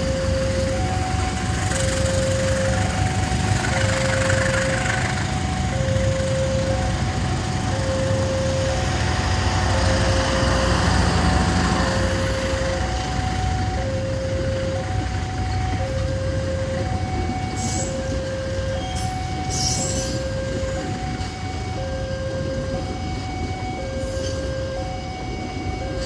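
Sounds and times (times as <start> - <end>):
train rumbling: 0.0 - 26.0
two-tone electronic warning signal: 0.0 - 26.0.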